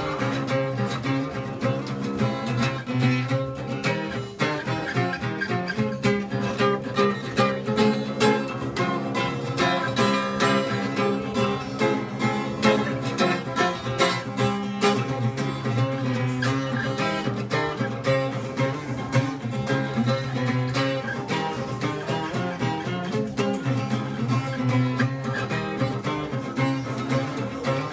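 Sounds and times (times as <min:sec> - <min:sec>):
guitar picked and strummed: 0:00.0 - 0:27.9.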